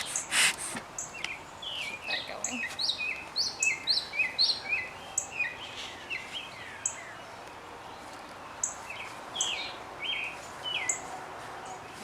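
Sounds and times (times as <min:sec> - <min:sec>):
faint outdoor hiss: 0:00.0 - 0:12.0
songbirds chirping: 0:00.0 - 0:12.0.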